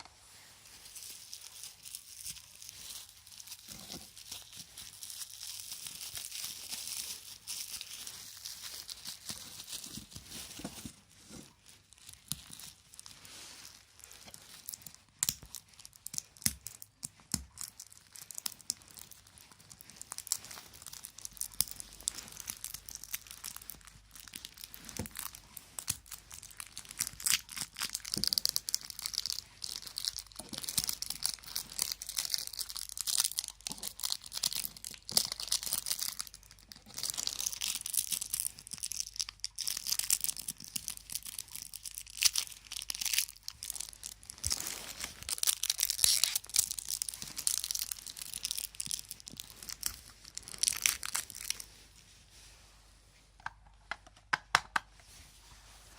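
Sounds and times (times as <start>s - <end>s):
packaging crinkling and tearing: 0.7s - 52.1s.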